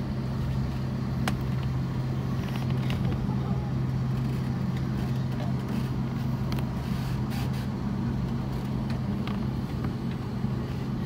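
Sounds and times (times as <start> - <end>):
jet engines idling low hum: 0.0 - 11.0.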